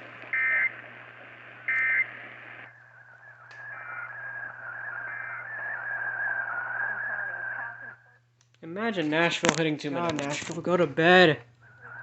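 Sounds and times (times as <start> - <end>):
radio hiss: 0.0 - 8.3, 9.4 - 12.0.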